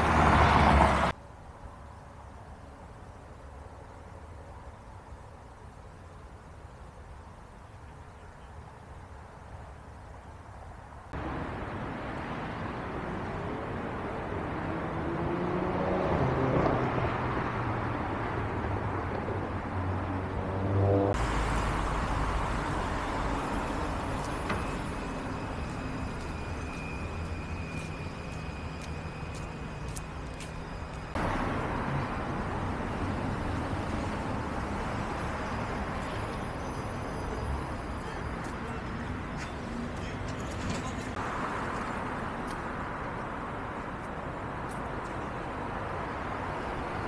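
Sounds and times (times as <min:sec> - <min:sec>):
traffic noise from cars: 0:00.0 - 0:47.0.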